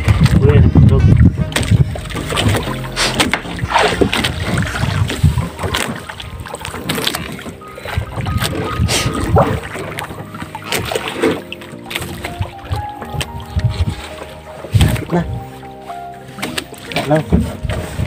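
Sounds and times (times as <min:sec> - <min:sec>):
water slapping against boat hull: 0:00.0 - 0:18.0.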